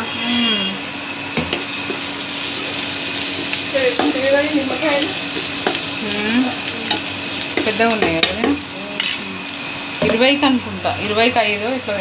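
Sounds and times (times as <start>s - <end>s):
food sizzling in a pan: 1.6s - 12.0s.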